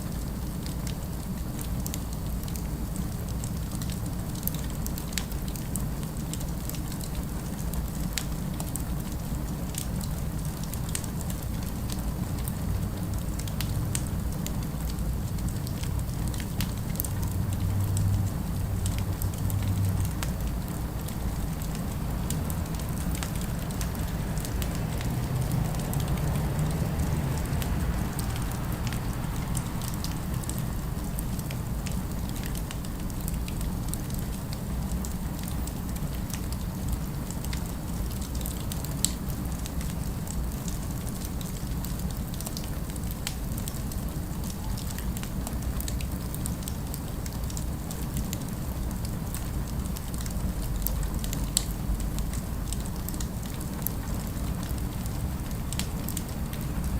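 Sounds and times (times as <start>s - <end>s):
faint city background: 0.0s - 56.9s
fire pops and crackles: 0.1s - 56.9s.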